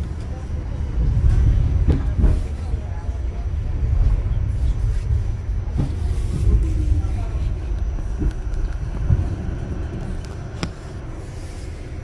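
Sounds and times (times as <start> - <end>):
subway car rumbling on track: 0.0 - 12.0.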